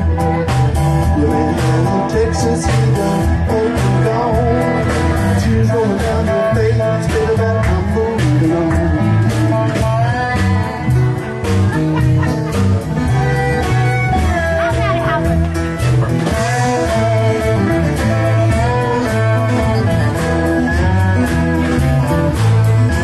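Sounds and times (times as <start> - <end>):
live blues-country band: 0.0 - 23.0
person singing: 0.0 - 23.0.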